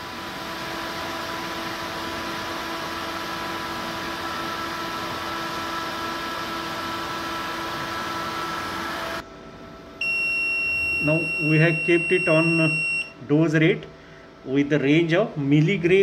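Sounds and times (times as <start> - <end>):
machine hum and hiss: 0.0 - 16.0.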